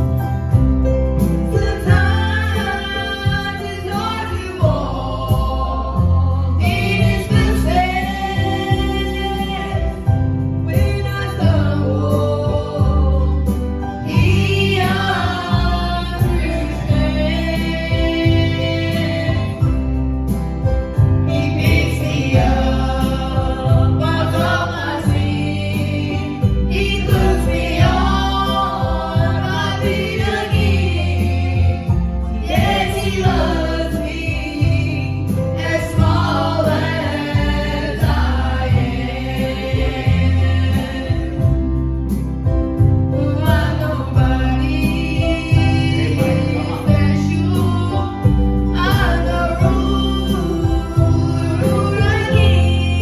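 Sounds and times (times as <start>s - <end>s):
gospel group singing a hymn: 0.0s - 53.0s
instrumental accompaniment: 0.0s - 53.0s
strong bass line: 0.0s - 53.0s.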